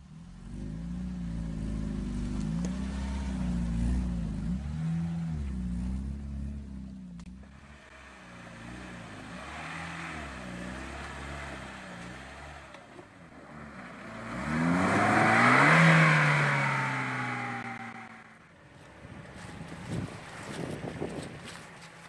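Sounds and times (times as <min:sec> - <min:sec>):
off-road engine revving: 0:00.0 - 0:22.0.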